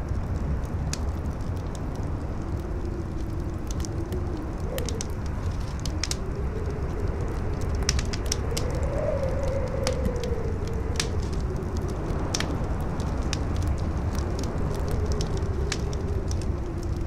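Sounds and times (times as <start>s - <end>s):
campfire crackling and popping: 0.0s - 17.0s
howling wind: 0.0s - 17.0s
low wind rumble: 0.0s - 17.0s.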